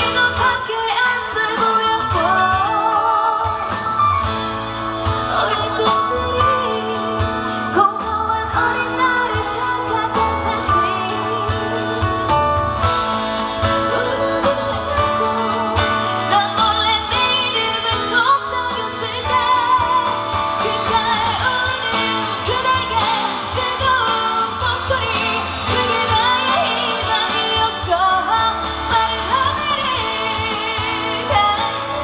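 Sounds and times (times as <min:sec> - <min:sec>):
live band playing pop-rock ballad: 0:00.0 - 0:32.0.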